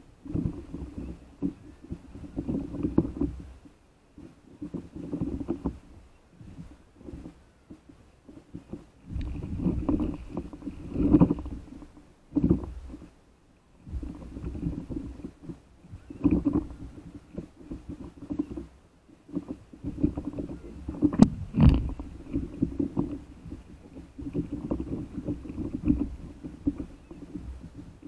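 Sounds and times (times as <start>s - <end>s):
water slapping against paddleboard: 4.2s - 13.2s, 13.9s - 28.0s.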